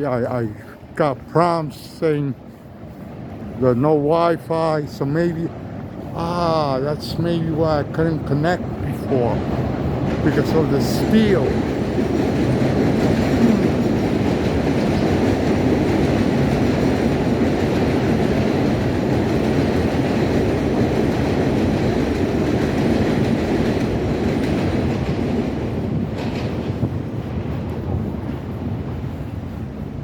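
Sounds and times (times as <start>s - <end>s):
elevated train passing overhead: 0.0s - 30.0s.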